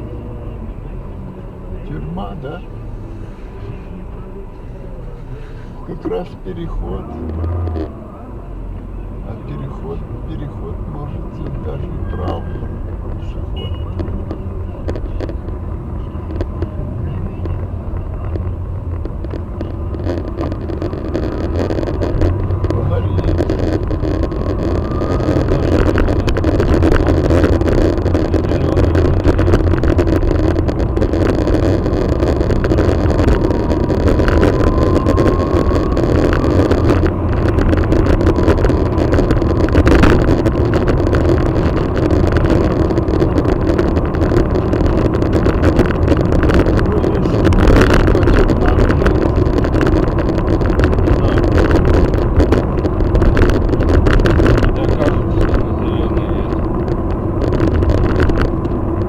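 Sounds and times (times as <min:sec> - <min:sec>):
car cabin rumble: 0:00.0 - 0:59.0.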